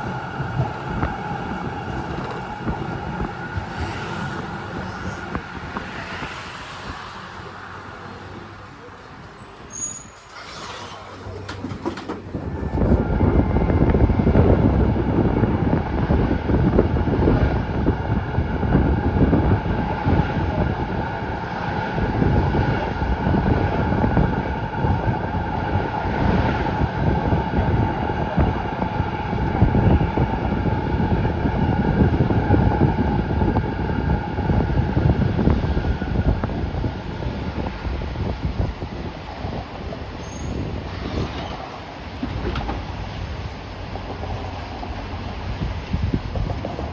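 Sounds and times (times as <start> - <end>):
tram wheels rumbling on rail: 0.0 - 46.9.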